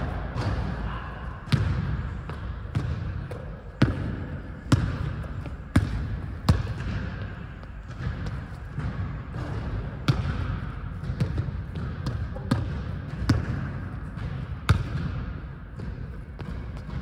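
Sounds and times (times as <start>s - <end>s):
basketball bouncing on hardwood floor: 1.5s - 7.3s, 7.9s - 17.0s.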